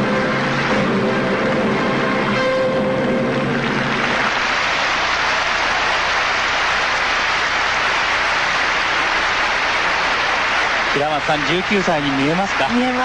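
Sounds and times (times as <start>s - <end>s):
arena crowd applauding: 0.0s - 13.0s.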